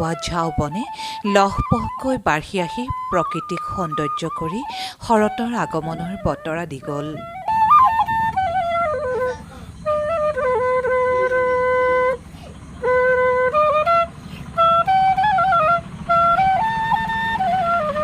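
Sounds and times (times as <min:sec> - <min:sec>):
flute melody: 0:00.0 - 0:18.0.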